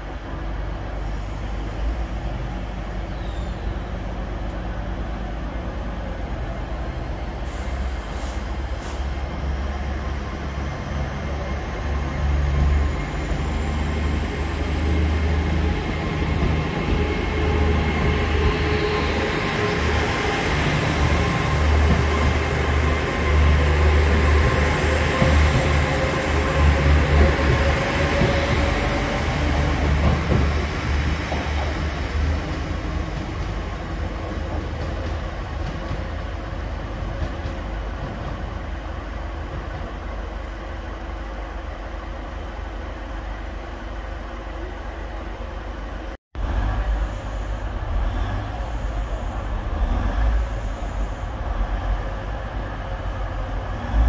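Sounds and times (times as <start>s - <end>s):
diesel train pulling away: 0.0s - 54.0s
standing trains engine hum: 0.0s - 54.0s.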